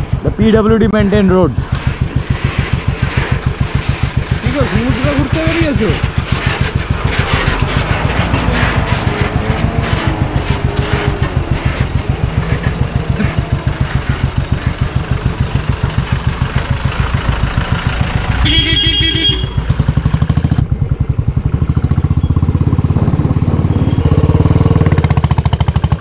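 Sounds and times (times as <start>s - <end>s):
motorcycle engine cruising: 0.0s - 26.0s
road and wind noise: 0.0s - 26.0s.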